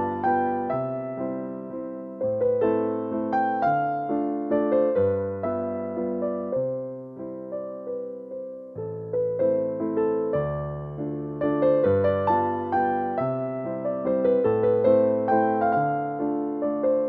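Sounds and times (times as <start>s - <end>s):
gentle piano tune: 0.0s - 17.0s.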